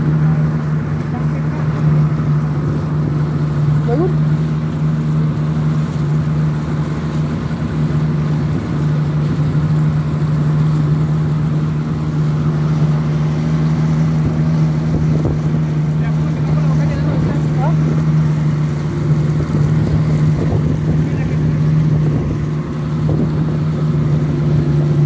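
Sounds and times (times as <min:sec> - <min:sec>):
boat engine running: 0:00.0 - 0:25.0
water splashing around hull: 0:00.0 - 0:25.0.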